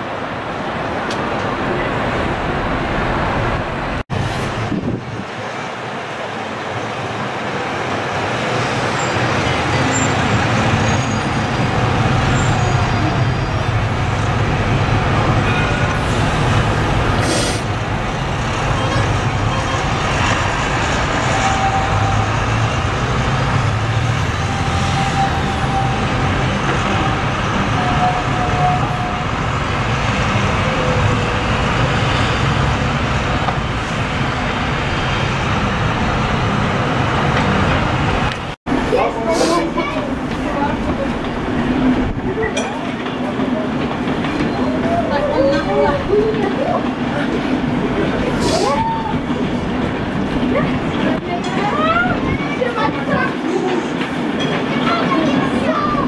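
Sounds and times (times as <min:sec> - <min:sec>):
street traffic rumble: 0:00.0 - 0:56.0.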